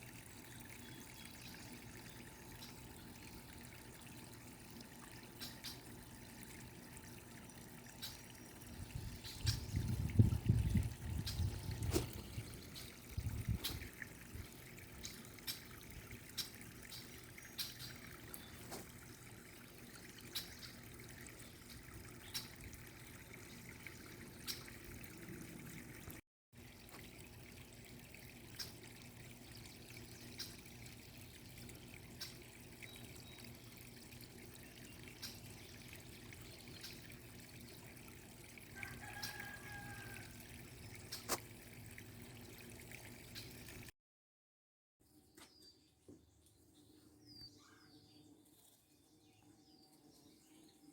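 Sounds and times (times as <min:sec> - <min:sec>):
sharp water drips: 0:00.0 - 0:43.9
trickle of running water: 0:00.0 - 0:43.9.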